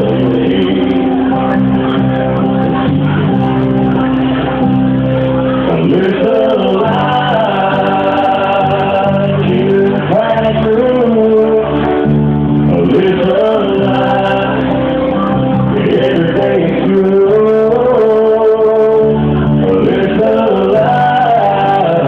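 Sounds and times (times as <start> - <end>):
person singing: 0.0 - 4.6, 5.4 - 22.0.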